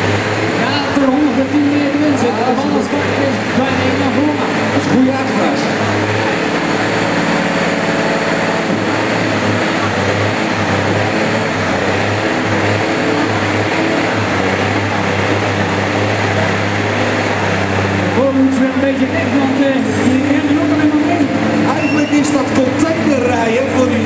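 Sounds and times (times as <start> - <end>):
truck diesel engine running hard: 0.0 - 24.0.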